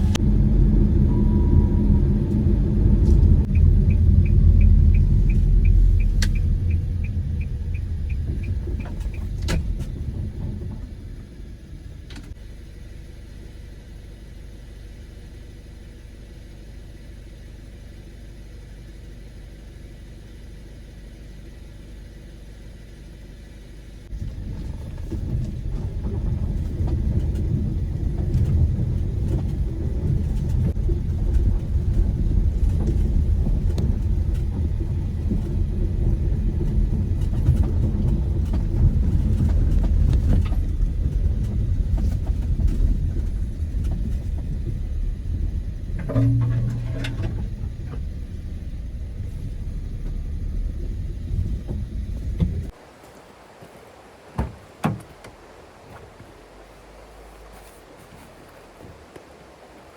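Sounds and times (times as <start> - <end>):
low vehicle rumble: 0.0 - 59.9.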